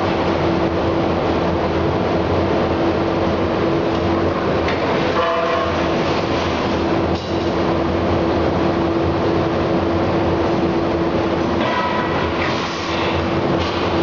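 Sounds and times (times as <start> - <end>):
machinery rumbling hum: 0.0 - 14.0.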